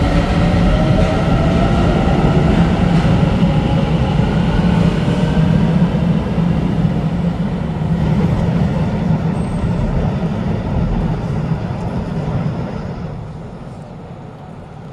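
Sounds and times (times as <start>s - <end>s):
electric train rumbling: 0.0s - 14.9s.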